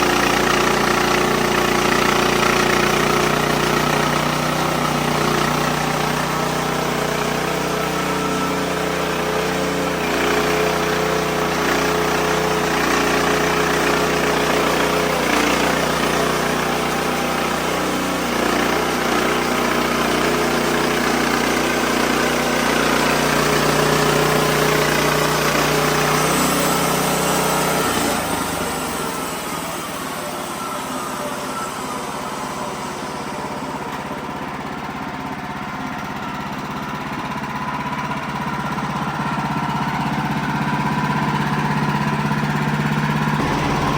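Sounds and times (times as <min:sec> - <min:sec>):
band sawmill cutting log: 0:00.0 - 0:43.9.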